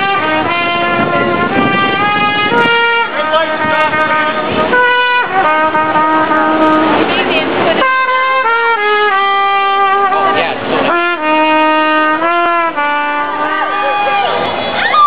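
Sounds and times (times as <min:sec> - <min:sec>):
melody of held notes: 0:00.0 - 0:14.7.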